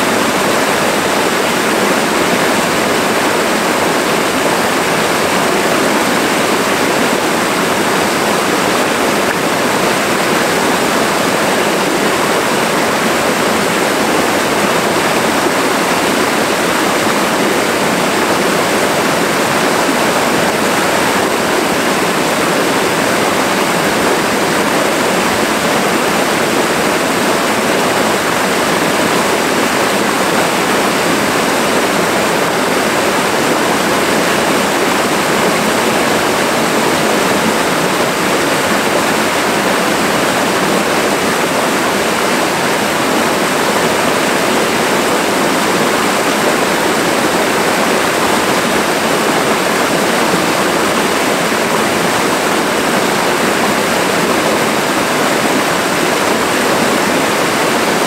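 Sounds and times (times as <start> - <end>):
stream rushing water: 0.0 - 58.0.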